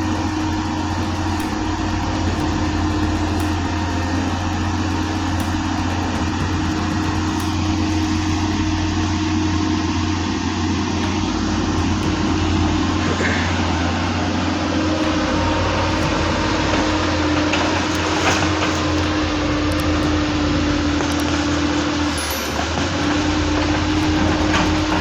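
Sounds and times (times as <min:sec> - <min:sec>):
excavator engine running: 0:00.0 - 0:25.0
hydraulic whine: 0:00.0 - 0:25.0.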